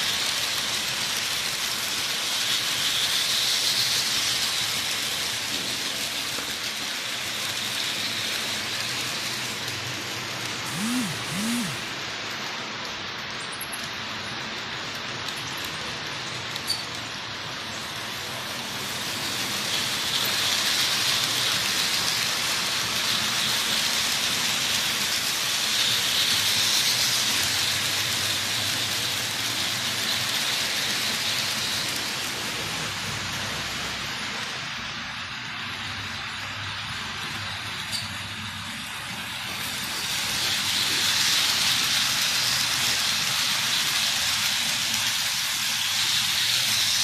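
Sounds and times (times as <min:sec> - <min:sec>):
model train wheels and motors: 0:00.0 - 0:47.0.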